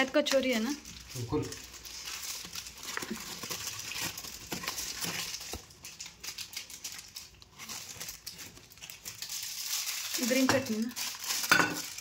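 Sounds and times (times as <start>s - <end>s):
paper bag crinkling: 0.0s - 12.0s.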